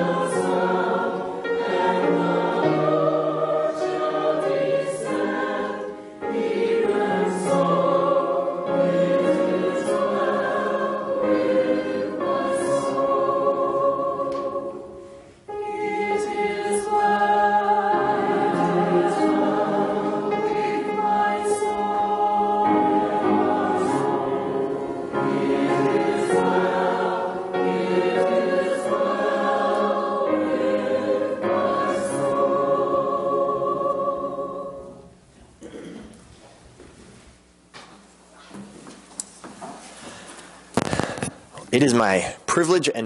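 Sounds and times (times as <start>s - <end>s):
congregation singing a hymn: 0.0s - 36.0s.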